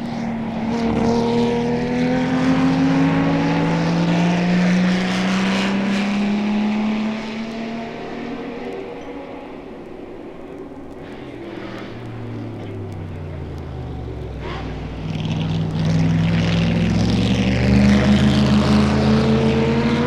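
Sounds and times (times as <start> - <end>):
racing car engine accelerating: 0.0 - 9.7, 10.9 - 20.0.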